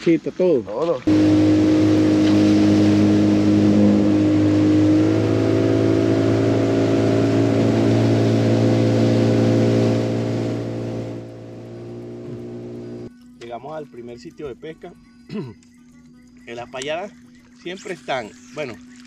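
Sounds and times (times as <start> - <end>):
outboard motor running: 0.9 - 19.0.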